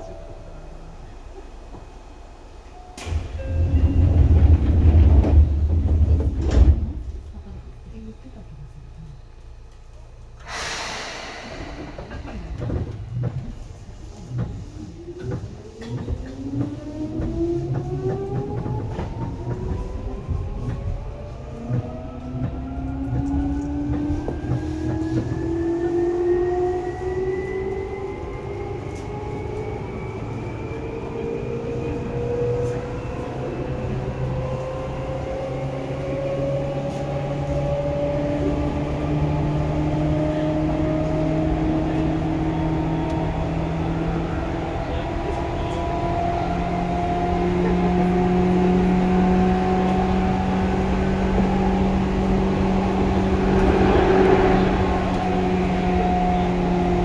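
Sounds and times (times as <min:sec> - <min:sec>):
wheels rumbling on rails: 0:00.0 - 0:57.0.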